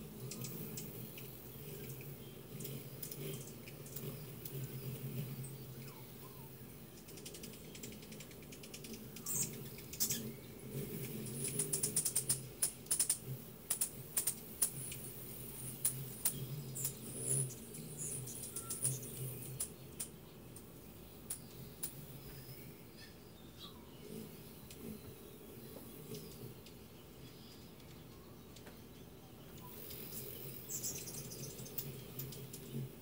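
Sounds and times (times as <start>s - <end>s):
hummingbird chip notes: 0.0s - 33.0s
hummingbird wingbeats humming: 0.0s - 33.0s.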